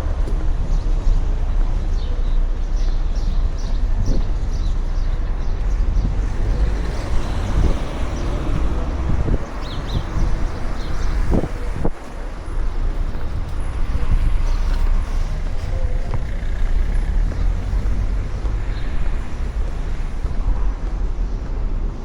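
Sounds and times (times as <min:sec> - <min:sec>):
road traffic rumble: 0:00.0 - 0:22.0
wind buffeting microphone: 0:00.0 - 0:22.0.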